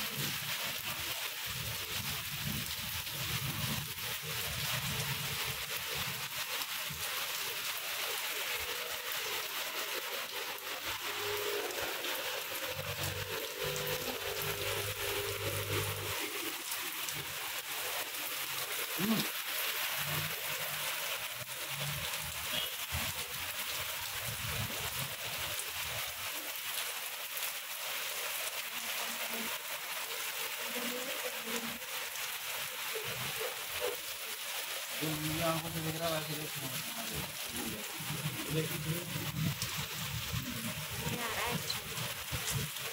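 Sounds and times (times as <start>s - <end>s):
heavy rain on trees and pavement: 0.0s - 42.9s.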